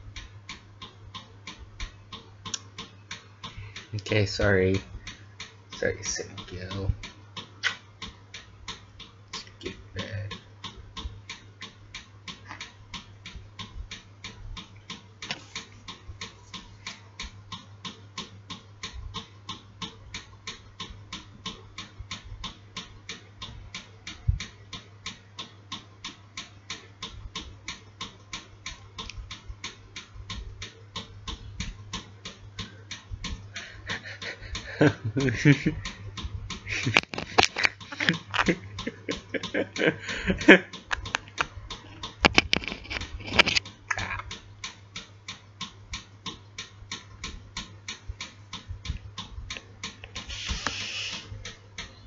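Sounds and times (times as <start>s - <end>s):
steady ticking: 0.0s - 52.0s.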